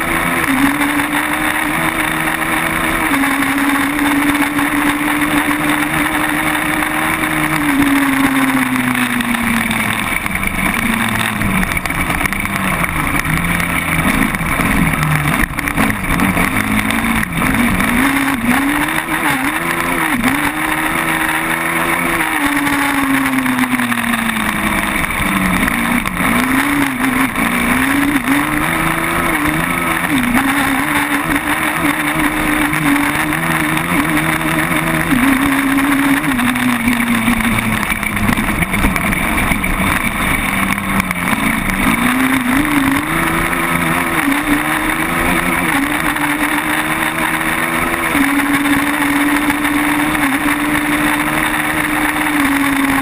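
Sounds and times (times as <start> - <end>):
quad bike engine revving: 0.0 - 53.0.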